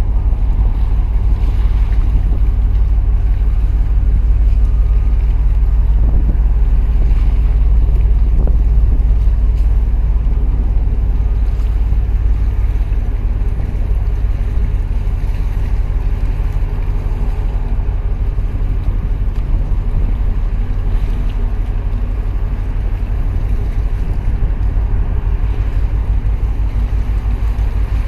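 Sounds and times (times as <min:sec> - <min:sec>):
large ship engine rumble: 0:00.0 - 0:28.0
water washing against breakwater: 0:00.0 - 0:28.0
wind buffeting microphone: 0:00.0 - 0:28.0.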